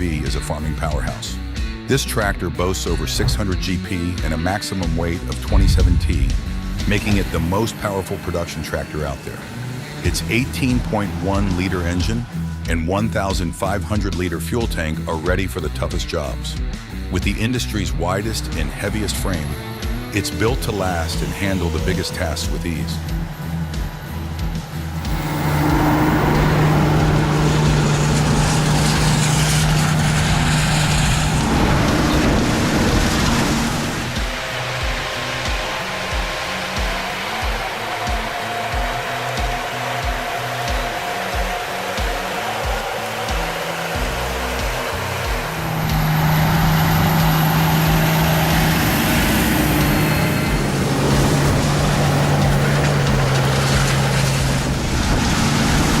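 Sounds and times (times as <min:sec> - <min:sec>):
tractor engine droning: 0:00.0 - 0:56.0.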